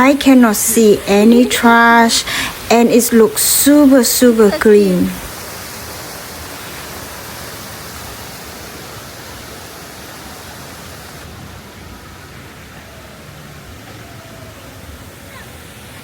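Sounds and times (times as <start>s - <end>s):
running water hissing: 0.0s - 16.0s.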